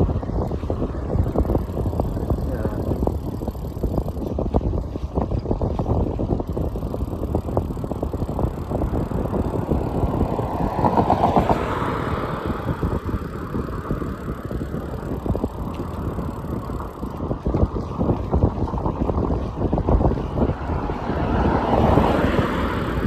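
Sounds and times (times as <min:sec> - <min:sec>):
bicycle road rumble: 0:00.0 - 0:23.0
vehicle passing: 0:00.0 - 0:23.0
wind buffeting microphone: 0:00.0 - 0:23.0.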